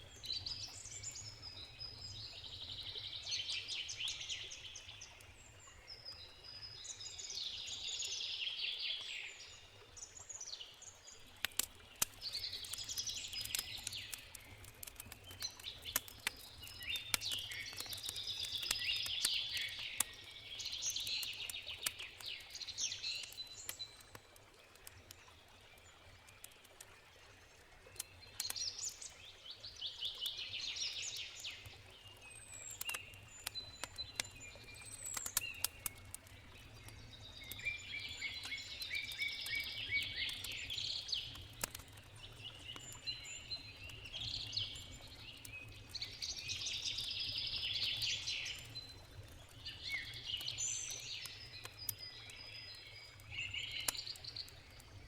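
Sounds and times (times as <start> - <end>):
river water flowing: 0.0 - 55.0
songbirds singing: 0.0 - 55.0
campfire crackling and popping: 10.4 - 55.0.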